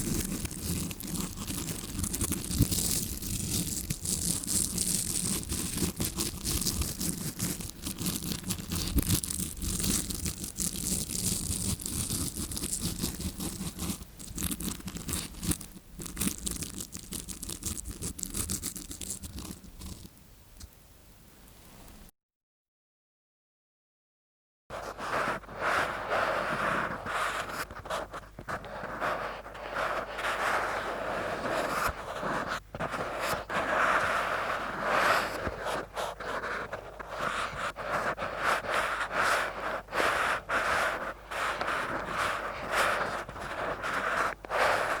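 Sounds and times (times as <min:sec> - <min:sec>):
scrub brush scratching microphone: 0:00.0 - 0:20.1, 0:24.7 - 0:45.0.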